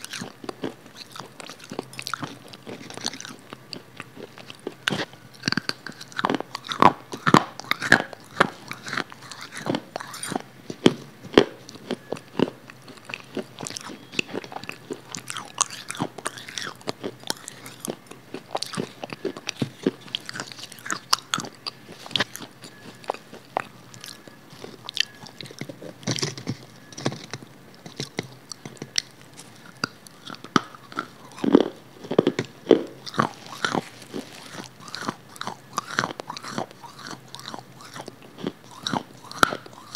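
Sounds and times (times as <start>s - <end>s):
crisp bites and chewing: 0.0s - 39.9s.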